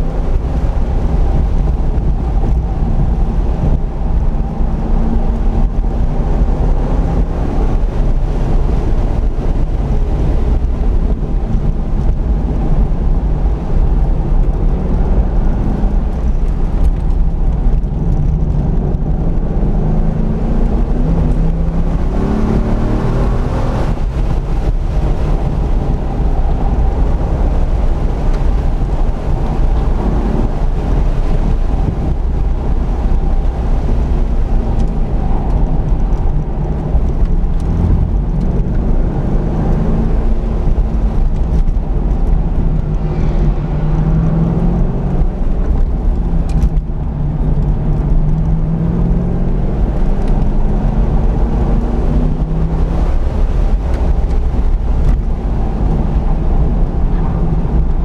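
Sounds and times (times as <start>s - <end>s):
car engine revving: 0.0s - 58.0s
road and drivetrain rumble: 0.0s - 58.0s.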